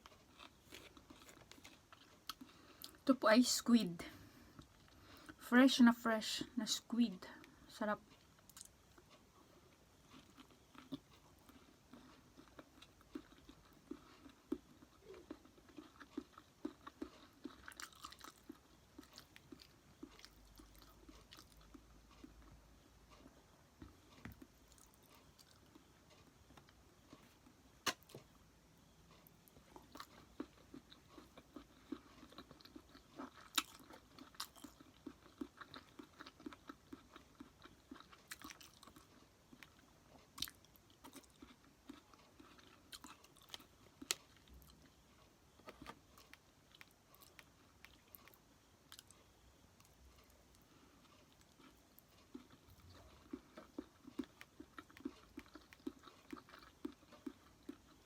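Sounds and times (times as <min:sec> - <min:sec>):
person chewing with mouth clicks: 0:00.0 - 0:03.0, 0:07.4 - 0:28.3, 0:29.1 - 0:58.0.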